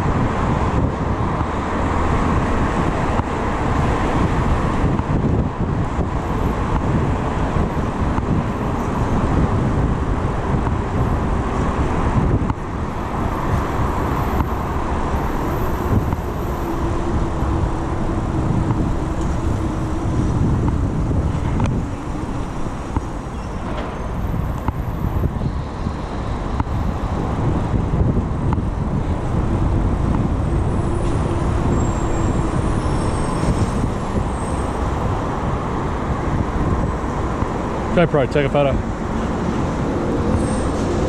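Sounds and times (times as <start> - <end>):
road traffic noise: 0.0 - 41.0
wind rushing over microphone: 0.0 - 41.0.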